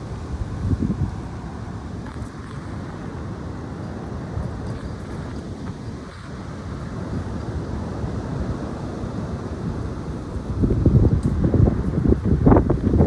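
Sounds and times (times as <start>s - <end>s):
high wind buffeting microphone: 0.0s - 13.0s.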